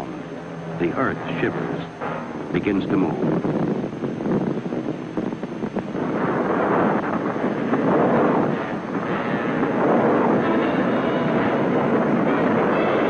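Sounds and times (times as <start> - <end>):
avalanche rushing: 0.0 - 13.0.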